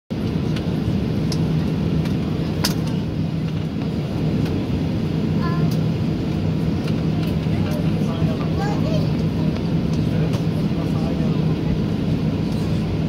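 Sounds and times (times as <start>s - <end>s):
jet engines low hum and rumble: 0.1s - 13.0s.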